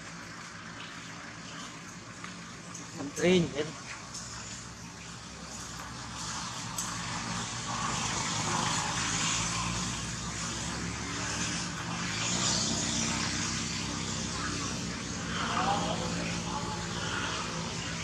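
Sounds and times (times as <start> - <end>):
broad rushing noise: 0.0 - 18.0
vehicle engine running: 0.0 - 18.0.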